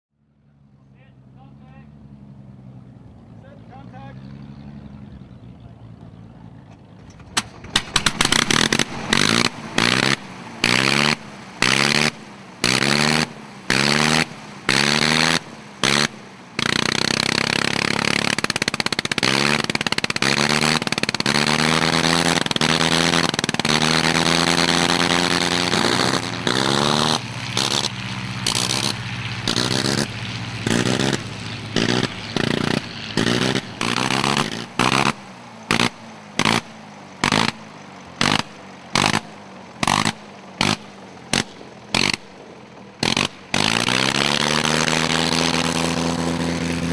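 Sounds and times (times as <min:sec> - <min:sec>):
rotary aircraft engine bursts: 0:01.4 - 0:46.9.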